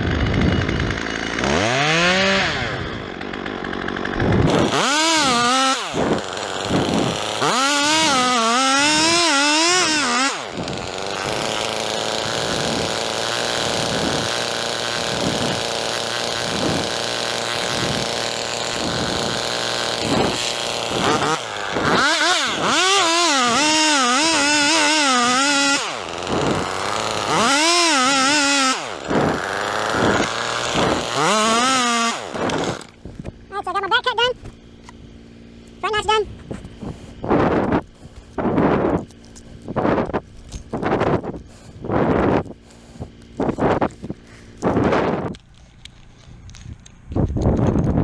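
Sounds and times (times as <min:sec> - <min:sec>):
chainsaw revving through wood: 0:00.0 - 0:45.7.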